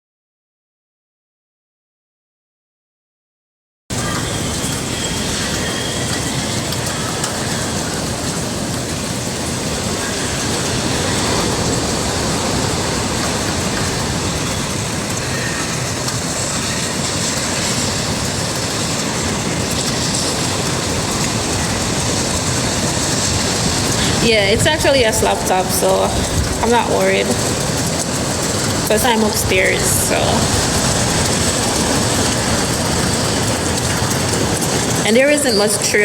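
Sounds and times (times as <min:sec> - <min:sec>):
heavy rain: 0:03.9 - 0:36.0
hurricane wind: 0:03.9 - 0:36.0.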